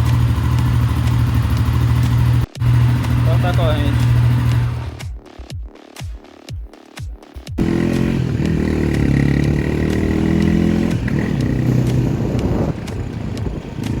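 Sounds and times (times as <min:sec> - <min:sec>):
motorcycle engine starting and revving: 0:00.0 - 0:05.2, 0:07.6 - 0:14.0.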